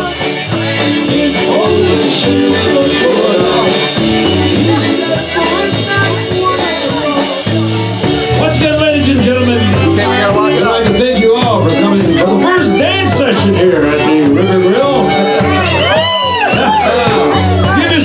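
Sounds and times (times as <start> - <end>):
man singing into microphone: 0.0 - 7.4, 8.4 - 15.5
accordion: 0.0 - 18.0
drum kit: 0.0 - 18.0
guitar: 0.0 - 18.0.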